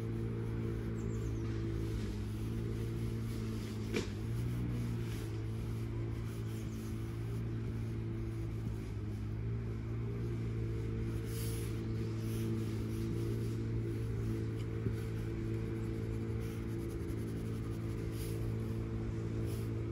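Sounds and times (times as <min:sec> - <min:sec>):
pencil strokes on paper: 0:00.0 - 0:19.9
vehicle engine droning: 0:00.0 - 0:19.9.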